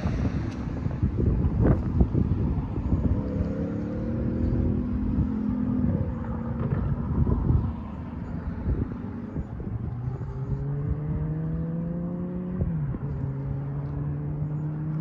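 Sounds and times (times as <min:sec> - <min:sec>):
passing vehicle drone: 0:00.0 - 0:15.0
wind buffeting microphone: 0:00.0 - 0:15.0.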